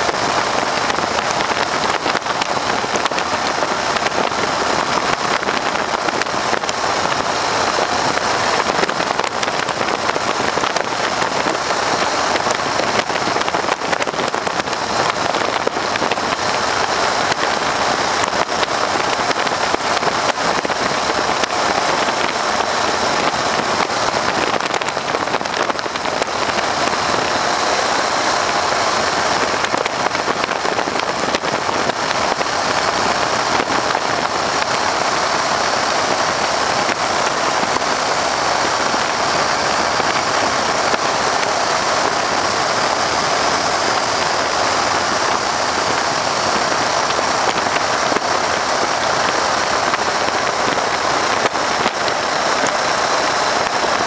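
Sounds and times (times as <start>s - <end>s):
biplane radial engine running: 0.0s - 54.0s.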